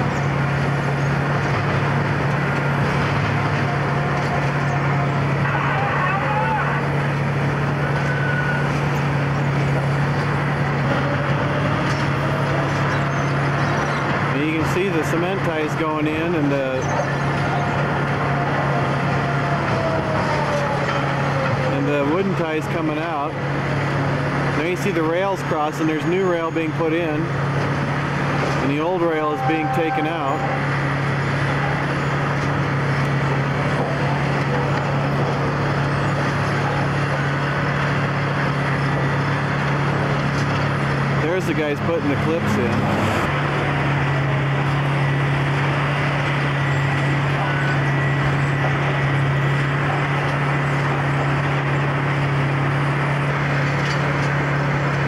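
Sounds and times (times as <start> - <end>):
track machine droning: 0.0 - 55.0.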